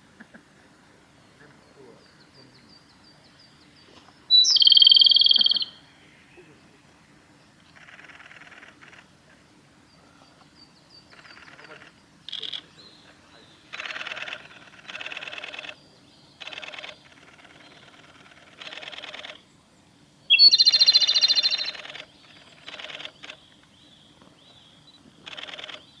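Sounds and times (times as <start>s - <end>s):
bird singing trilled phrases: 1.2s - 6.8s, 9.9s - 26.0s.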